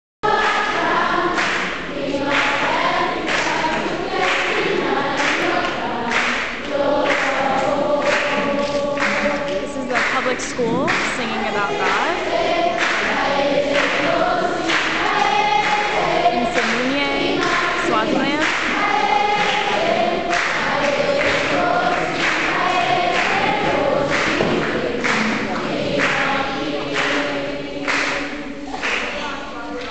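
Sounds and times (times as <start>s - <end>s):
choir singing: 0.2s - 29.9s.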